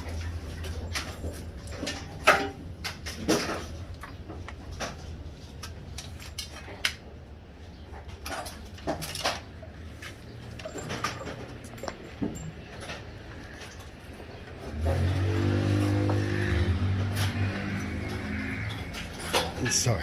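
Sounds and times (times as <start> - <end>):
tools and parts clattering: 0.0 - 7.0, 7.7 - 20.0.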